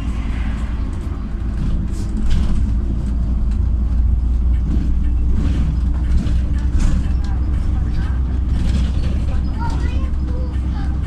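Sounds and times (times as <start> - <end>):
bus engine rumble: 0.0 - 11.0.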